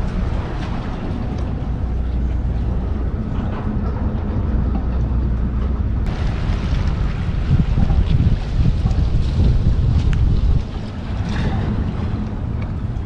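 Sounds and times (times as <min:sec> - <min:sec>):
surf: 0:00.0 - 0:13.0
wind buffeting microphone: 0:00.0 - 0:13.0.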